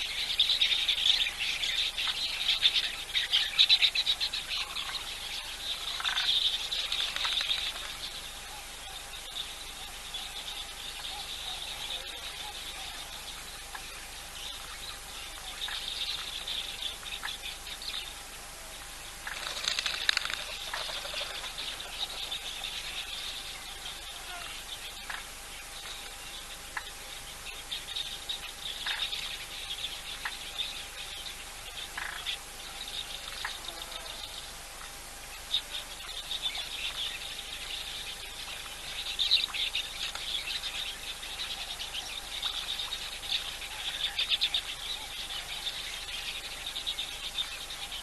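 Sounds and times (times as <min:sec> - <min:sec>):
insects chirring chorus: 0:00.0 - 0:48.0.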